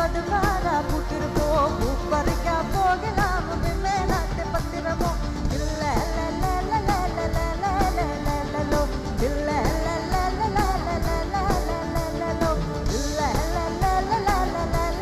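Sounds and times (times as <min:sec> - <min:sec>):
guitar: 0:00.0 - 0:15.0
person singing: 0:00.0 - 0:15.0
steady drum beat: 0:00.0 - 0:15.0.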